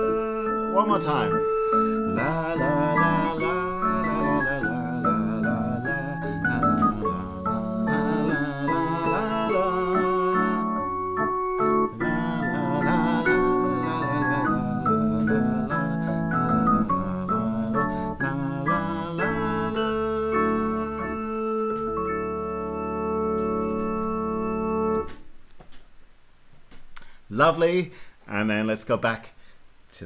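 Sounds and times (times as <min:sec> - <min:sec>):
fairground organ music: 0:00.0 - 0:25.3.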